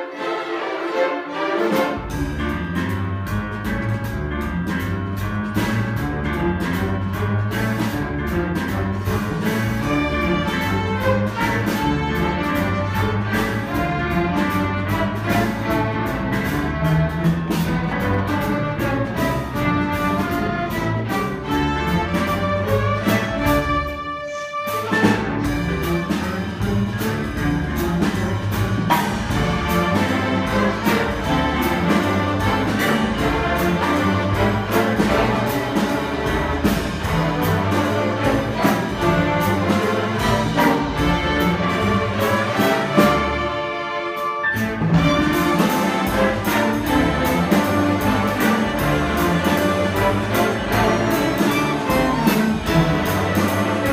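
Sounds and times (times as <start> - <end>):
string orchestra playing: 0.0 - 53.9.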